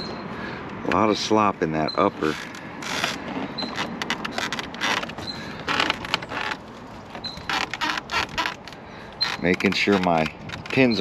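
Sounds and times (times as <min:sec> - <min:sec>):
plastic suspension parts rattling: 0:02.2 - 0:11.0.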